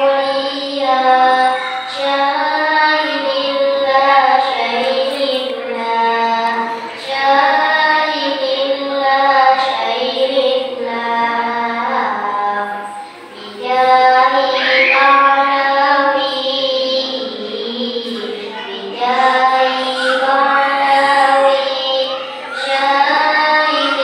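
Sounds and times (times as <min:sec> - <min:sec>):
boy singing unaccompanied: 0:00.0 - 0:24.0.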